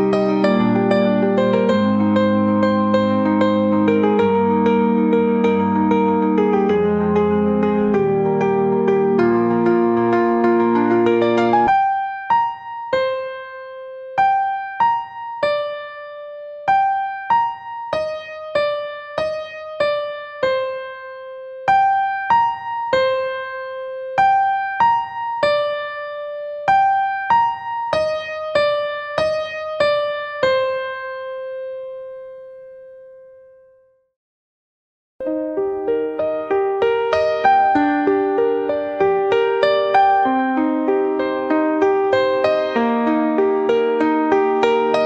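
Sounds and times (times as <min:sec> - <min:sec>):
calm electric piano music: 0:00.0 - 0:33.8, 0:35.2 - 0:45.0.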